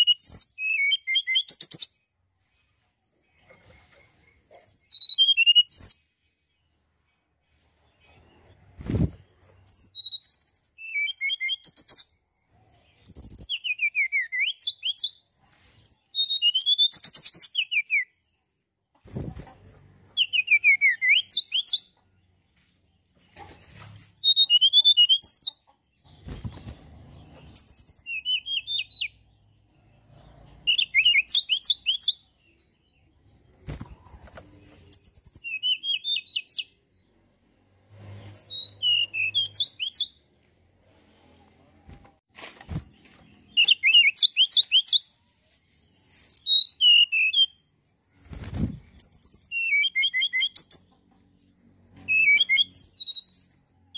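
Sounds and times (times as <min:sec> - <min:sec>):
songbird chirping and trilling: 0:00.0 - 0:40.5, 0:41.2 - 0:53.9.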